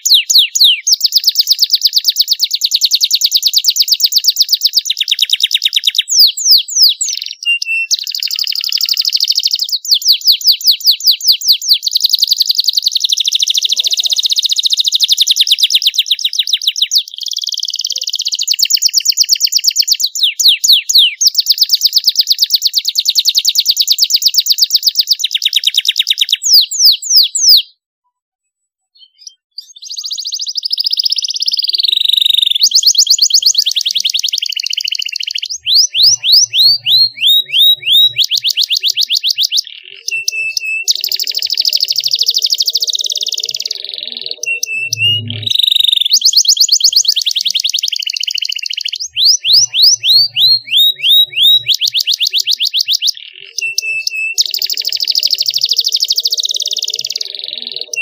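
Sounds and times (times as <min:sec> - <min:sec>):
canary singing trills: 0:00.0 - 0:27.8, 0:28.9 - 0:58.0.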